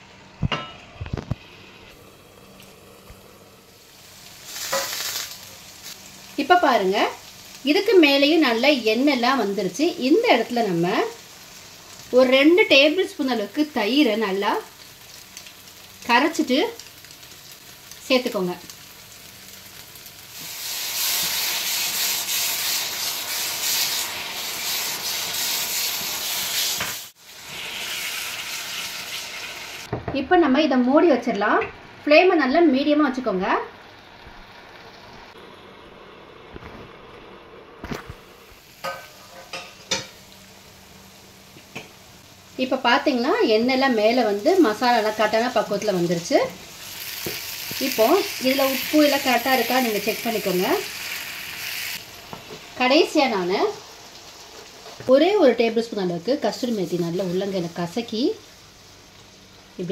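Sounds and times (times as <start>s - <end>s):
gravy sizzling: 0.0s - 59.9s.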